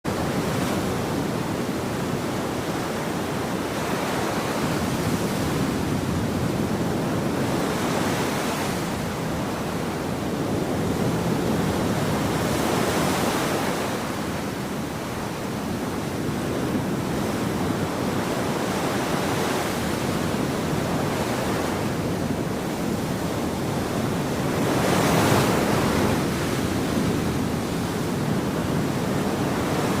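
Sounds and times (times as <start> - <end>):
ocean waves breaking: 0.1 - 30.0.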